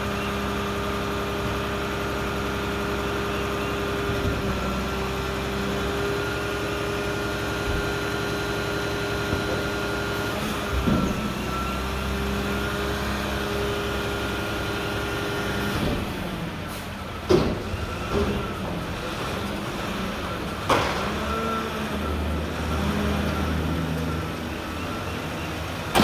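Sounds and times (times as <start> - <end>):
garbage truck engine running: 0.0 - 26.0.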